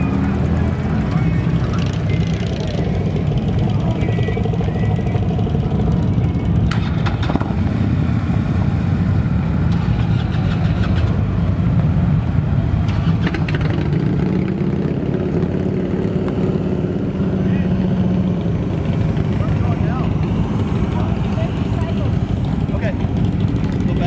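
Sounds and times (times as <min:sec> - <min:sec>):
vehicle engine running at low revs: 0:00.0 - 0:24.0.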